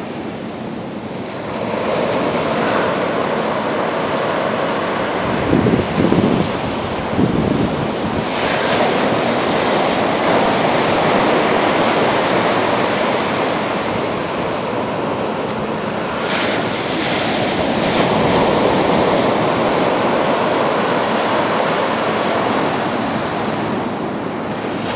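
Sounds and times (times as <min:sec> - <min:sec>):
ocean surf breaking: 0:00.0 - 0:24.9
wind buffeting microphone: 0:00.0 - 0:24.9.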